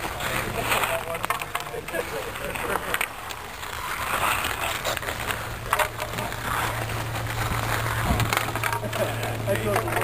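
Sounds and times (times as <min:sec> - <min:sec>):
hockey sticks clattering on ice: 0:00.0 - 0:10.0
ice skates scraping: 0:00.0 - 0:10.0
steady low hum: 0:00.0 - 0:10.0.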